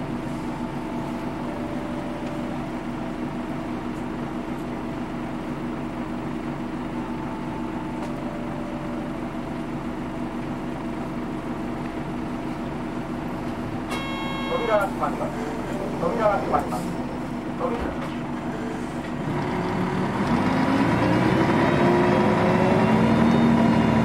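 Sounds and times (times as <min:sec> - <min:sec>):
bus diesel engine idling: 0:00.0 - 0:21.0.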